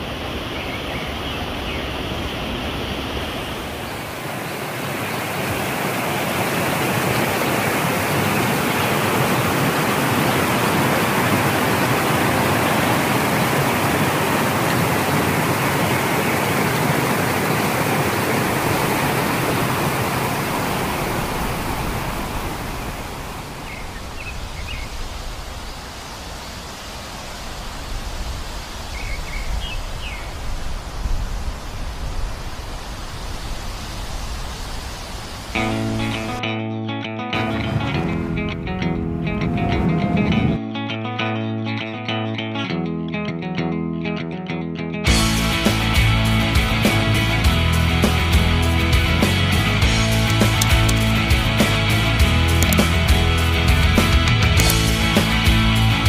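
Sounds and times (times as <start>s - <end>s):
stream rushing over rocks: 0.0s - 36.5s, 46.5s - 56.0s.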